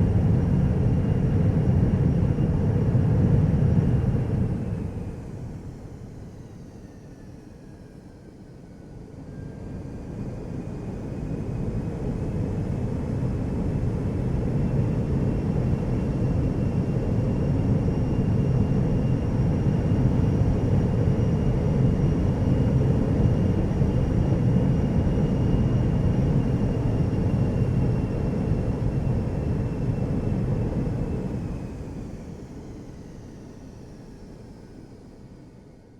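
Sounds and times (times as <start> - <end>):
jet engine whine and rumble: 0.0 - 35.9.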